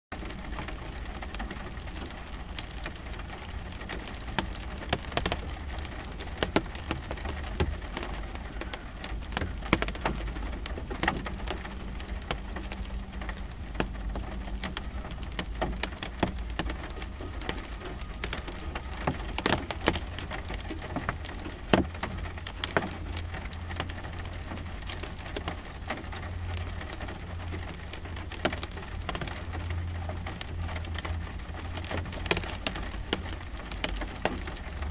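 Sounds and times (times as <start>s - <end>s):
rain on a car windshield: 0.1s - 34.9s.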